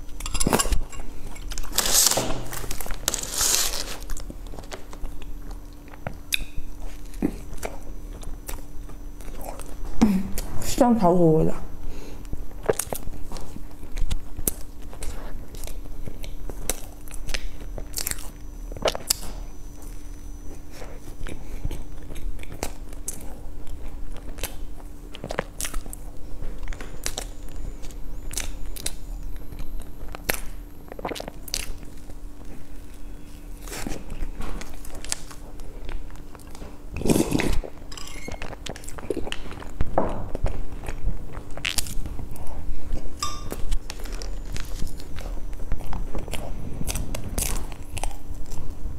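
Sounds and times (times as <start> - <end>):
biting and chewing cake: 0.0 - 10.6, 12.1 - 48.9
faint steady hum: 0.0 - 48.9.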